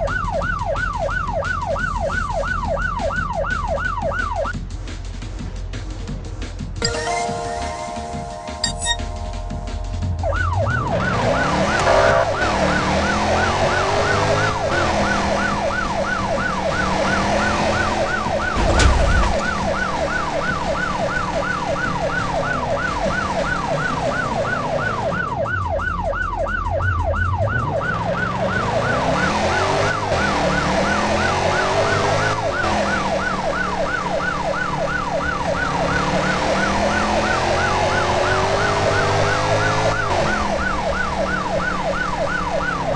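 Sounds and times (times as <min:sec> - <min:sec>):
siren yelping: 0:06.8 - 0:42.9.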